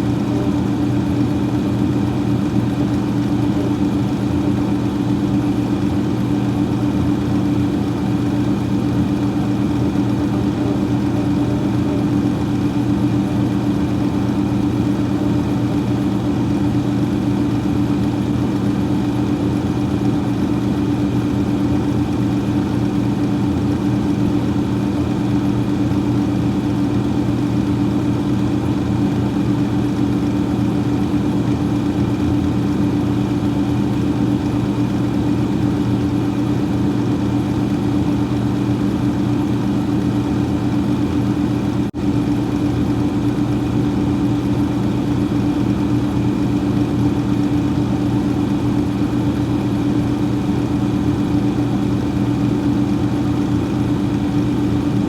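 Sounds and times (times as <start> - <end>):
freezer fan humming: 0.0 - 55.0.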